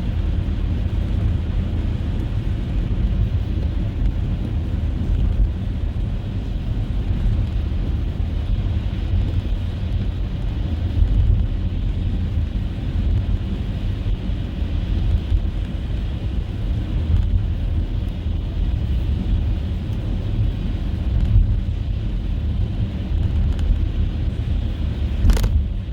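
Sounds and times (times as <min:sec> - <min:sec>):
car engine and tyre rumble: 0:00.0 - 0:25.9.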